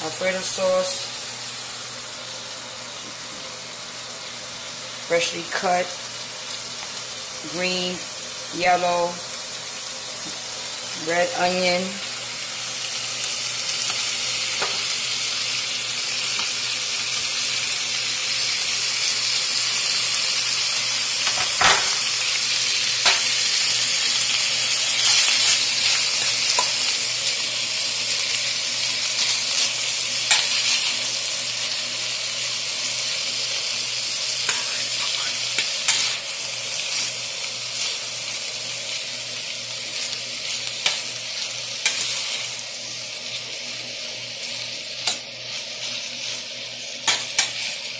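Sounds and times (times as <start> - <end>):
vegetables sizzling in hot oil: 0.0 - 47.9.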